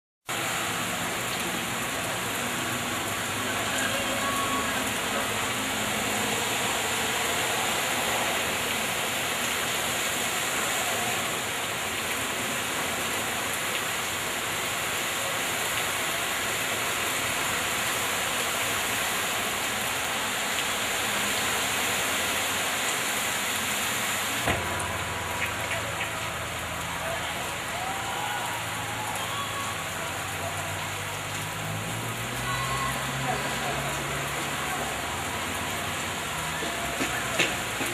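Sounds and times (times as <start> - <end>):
floodwater rushing: 0.3 - 37.9.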